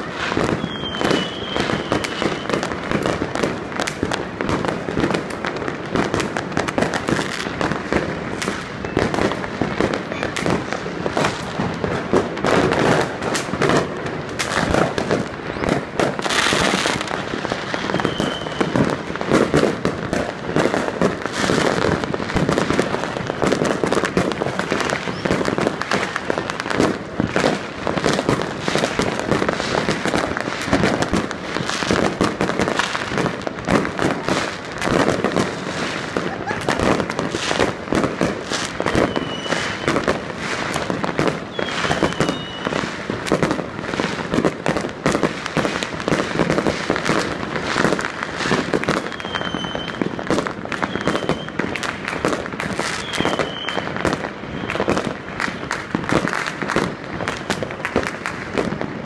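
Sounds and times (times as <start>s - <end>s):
high firework whistles: 0.0s - 5.3s, 6.0s - 58.2s
fireworks and firecrackers banging: 0.0s - 59.0s.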